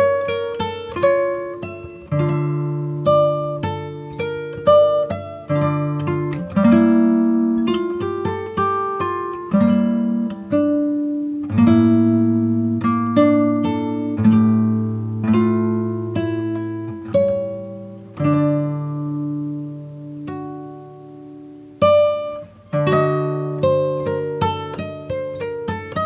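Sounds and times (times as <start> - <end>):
acoustic guitar picking: 0.0 - 26.0.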